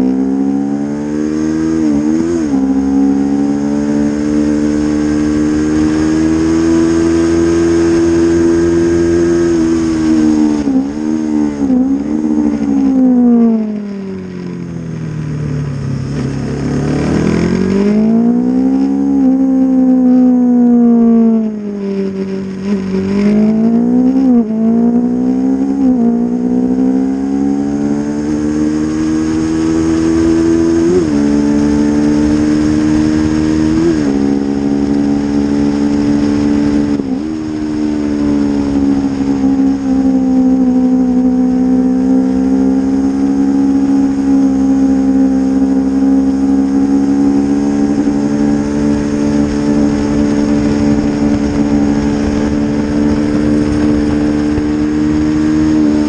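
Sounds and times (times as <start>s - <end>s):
wind noise: 0.0s - 41.8s, 42.4s - 56.0s
motorcycle engine revving: 0.0s - 56.0s.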